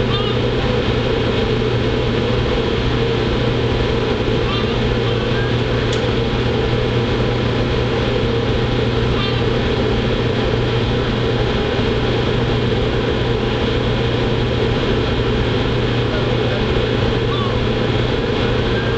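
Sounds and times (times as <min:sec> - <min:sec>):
ship diesel machinery droning: 0:00.0 - 0:18.9.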